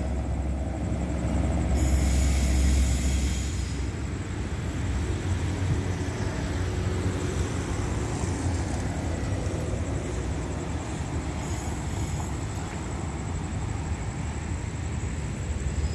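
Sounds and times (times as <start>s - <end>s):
diesel train rumbling: 0.0s - 15.9s.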